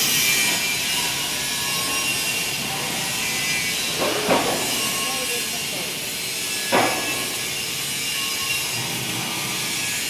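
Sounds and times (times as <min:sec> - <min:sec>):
welding arc crackling and hissing: 0:00.0 - 0:10.0.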